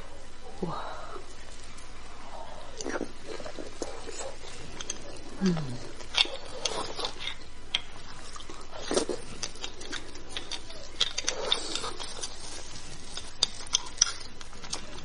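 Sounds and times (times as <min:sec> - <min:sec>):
wet chewing clicks: 0:01.3 - 0:15.0.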